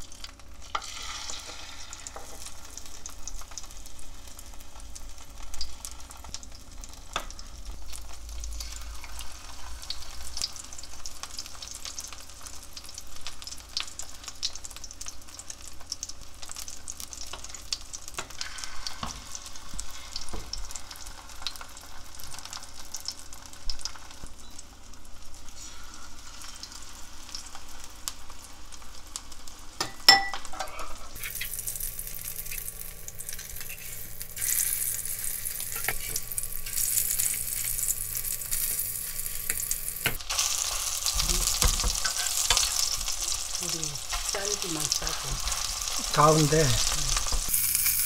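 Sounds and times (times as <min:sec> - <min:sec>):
oysters sizzling in hot oil: 0:00.0 - 0:48.0.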